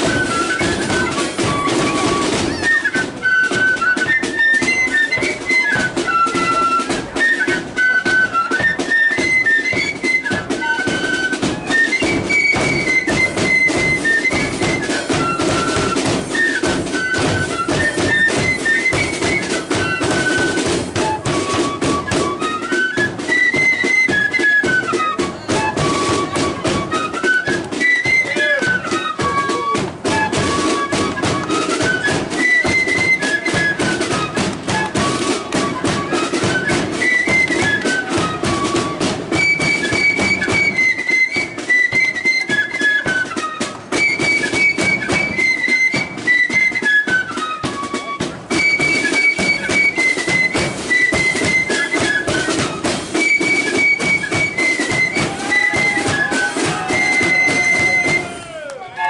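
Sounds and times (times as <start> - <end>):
snare and bass drumming: 0.0 - 58.7
flute melody: 0.0 - 59.0.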